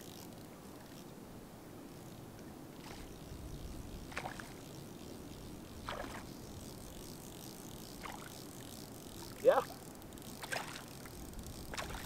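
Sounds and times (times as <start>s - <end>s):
fly reel drag ratcheting: 0.0s - 1.1s, 1.9s - 12.0s.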